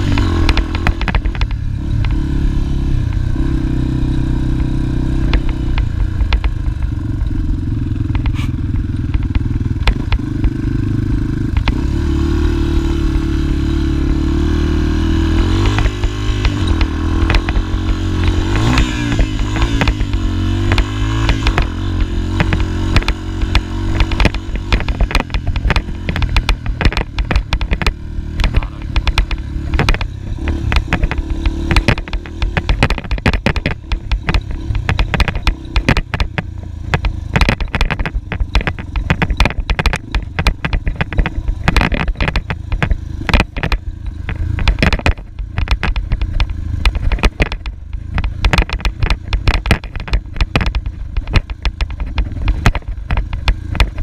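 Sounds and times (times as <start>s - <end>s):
knocks and rattles: 0.0s - 2.3s, 4.4s - 11.9s, 15.0s - 54.0s
dirt bike engine: 0.0s - 54.0s.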